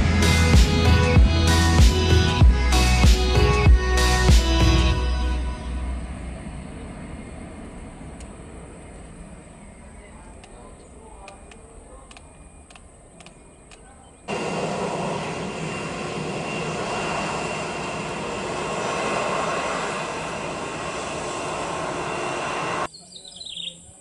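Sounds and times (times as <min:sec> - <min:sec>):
airliner engines roaring: 0:00.0 - 0:22.9.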